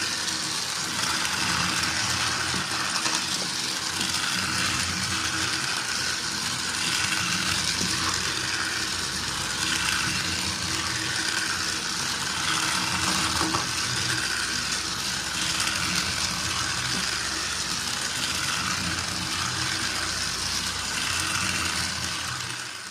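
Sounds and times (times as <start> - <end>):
toy train motor whirring: 0.0 - 22.9.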